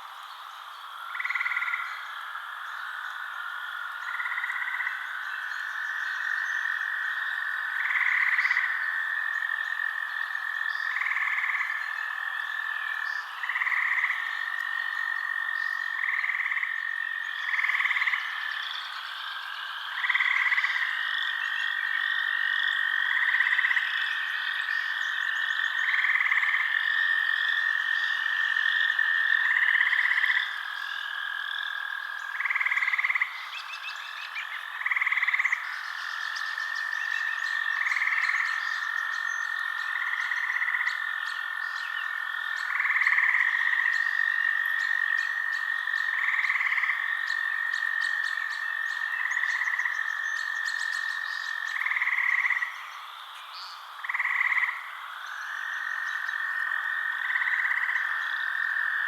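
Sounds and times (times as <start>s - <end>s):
short loud frog calls: 0.0s - 59.0s.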